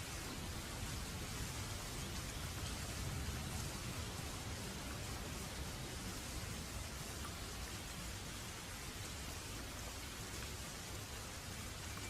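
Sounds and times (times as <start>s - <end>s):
steady rainfall: 0.0s - 12.0s.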